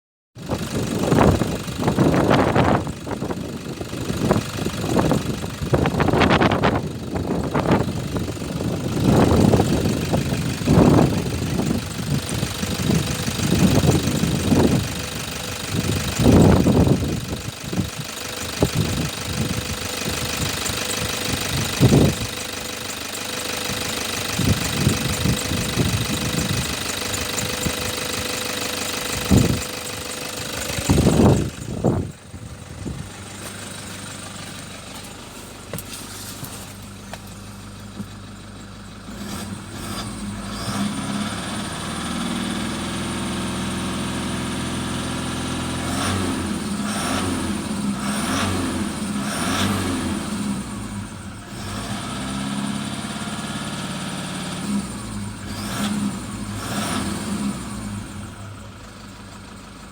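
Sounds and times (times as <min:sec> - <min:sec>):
truck engine revving: 0:00.8 - 0:38.3, 0:39.0 - 0:59.0.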